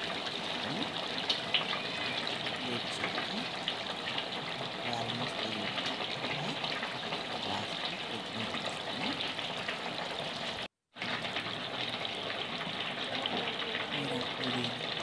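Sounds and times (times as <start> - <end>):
curry bubbling and sizzling: 0.0 - 15.0.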